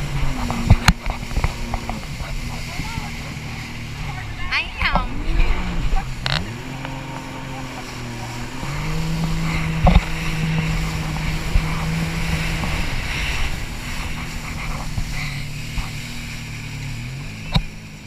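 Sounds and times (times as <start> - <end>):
wind buffeting microphone: 0.0 - 17.8
jet ski engine running: 0.0 - 18.0.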